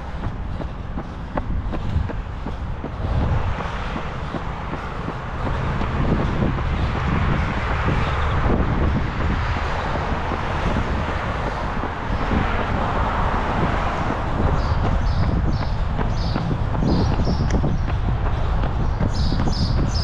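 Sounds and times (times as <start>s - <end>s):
road traffic passing: 0.0s - 20.0s
wind buffeting microphone: 0.0s - 20.0s.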